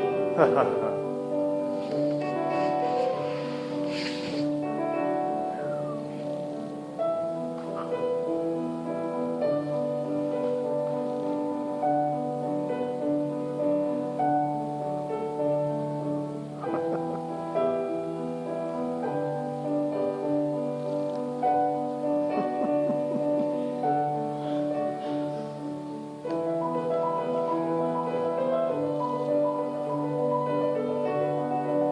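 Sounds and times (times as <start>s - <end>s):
slow instrumental music: 0.0s - 31.9s.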